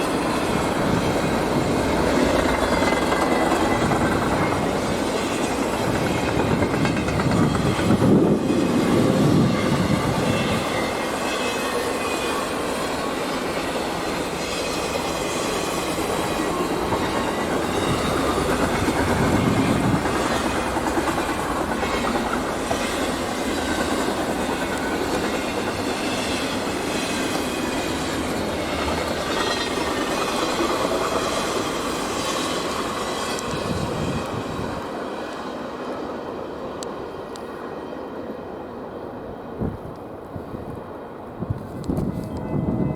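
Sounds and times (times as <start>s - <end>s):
train wheels clacking over rails: 0.0s - 37.7s.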